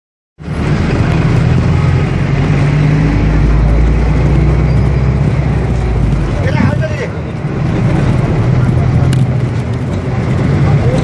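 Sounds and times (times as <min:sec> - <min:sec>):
vehicle engine droning: 0:00.4 - 0:11.0.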